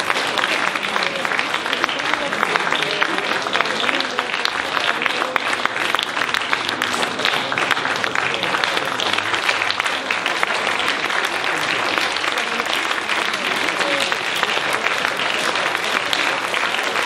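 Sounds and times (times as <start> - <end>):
audience clapping: 0.0 - 17.0
faint voices: 0.0 - 17.0.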